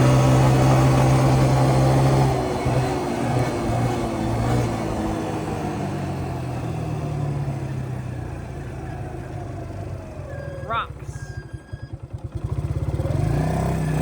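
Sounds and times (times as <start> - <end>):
quad engine slowing: 0.0 - 14.0.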